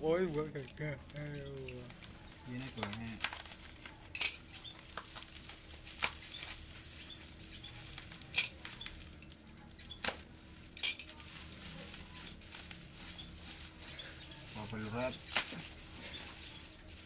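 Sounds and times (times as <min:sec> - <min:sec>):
bubble wrap rustling: 0:00.0 - 0:17.0
bubble wrap crinkling crackles: 0:00.1 - 0:17.0.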